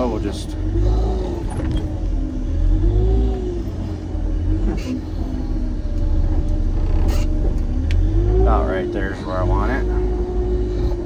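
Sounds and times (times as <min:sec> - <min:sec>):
loader engine rumbling: 0:00.0 - 0:11.0.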